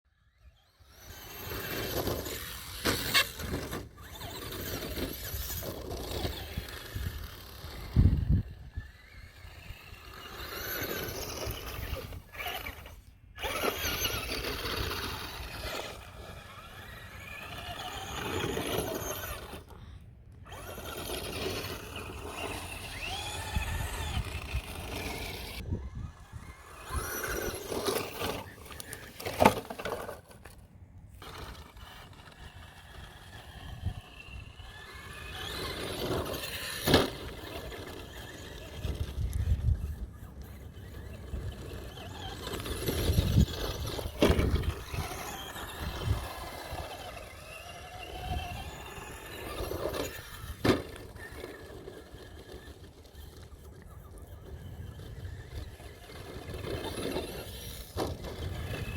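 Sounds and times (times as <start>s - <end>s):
toy car motors whining: 0.1s - 58.9s
tyres rumbling on ground: 0.9s - 19.8s, 20.4s - 58.9s.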